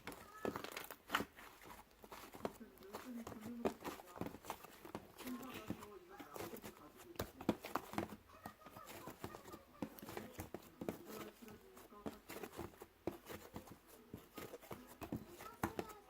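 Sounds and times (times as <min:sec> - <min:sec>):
small clicks and taps: 0:00.0 - 0:16.0
faint voices: 0:02.1 - 0:16.0.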